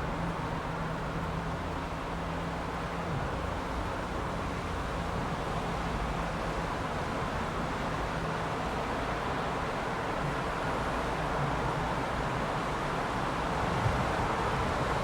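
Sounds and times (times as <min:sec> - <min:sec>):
heavy rain on a street: 0:00.0 - 0:15.0.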